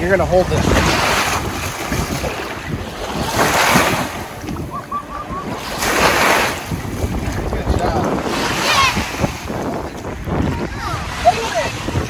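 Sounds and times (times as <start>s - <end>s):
lake water lapping: 0.0s - 12.0s
wind buffeting microphone: 0.0s - 12.0s.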